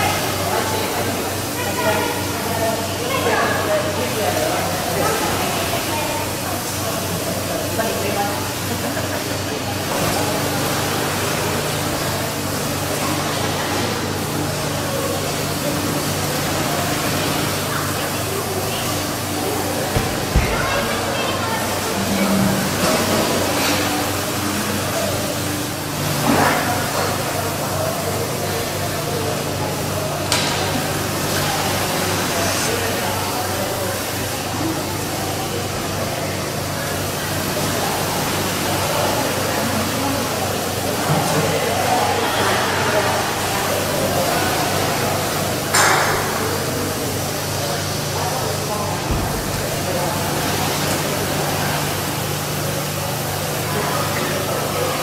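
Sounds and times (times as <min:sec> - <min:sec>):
machinery hum: 0:00.0 - 0:55.0.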